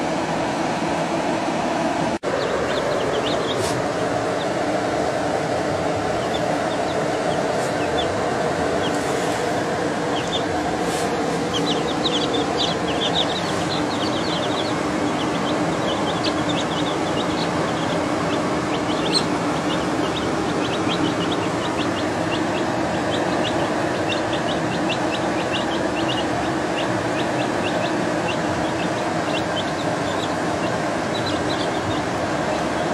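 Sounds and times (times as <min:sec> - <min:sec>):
steady background noise: 0:00.0 - 0:32.9
baby chicks peeping: 0:02.2 - 0:32.9.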